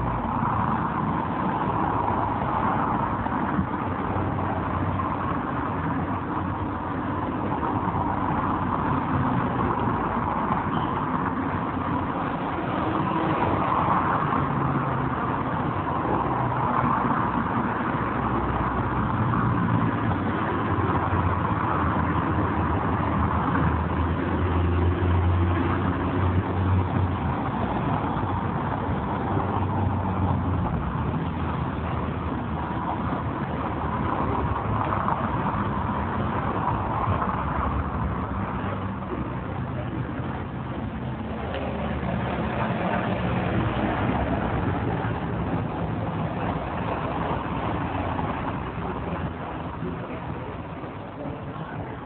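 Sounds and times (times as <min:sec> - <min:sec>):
motor vehicle engines running: 0:00.0 - 0:52.0
steady rushing noise: 0:00.0 - 0:52.0.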